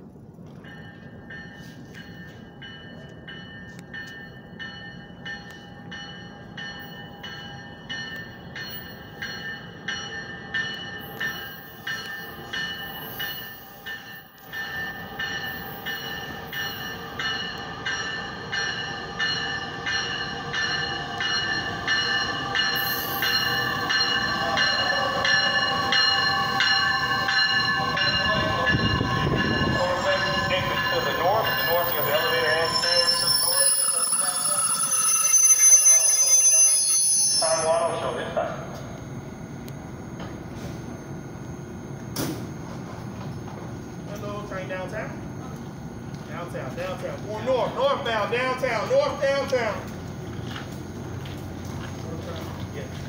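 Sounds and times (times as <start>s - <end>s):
train wheels rumbling on rail: 0.0s - 33.7s, 38.6s - 53.0s
train bell ringing: 0.4s - 42.1s, 46.2s - 52.9s.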